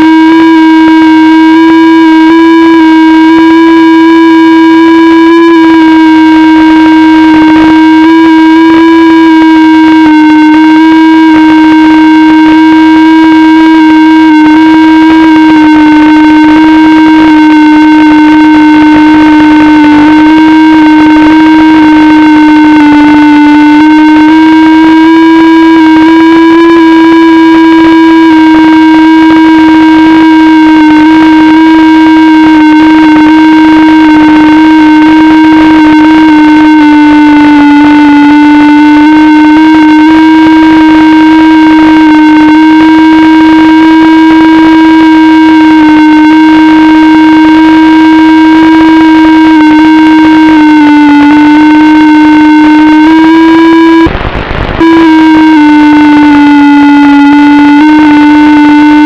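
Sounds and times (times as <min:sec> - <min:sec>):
drone motors buzzing whine: 0:00.0 - 0:59.0.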